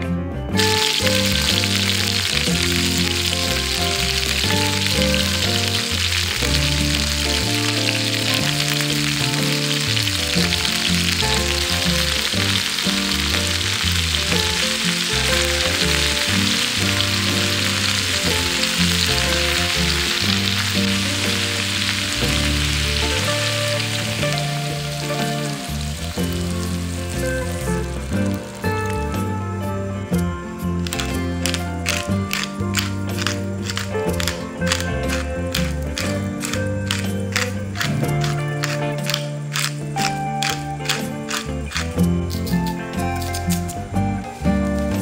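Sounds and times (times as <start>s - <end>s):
background music: 0.0s - 45.0s
food sizzling in hot oil: 0.6s - 29.3s, 30.8s - 43.6s.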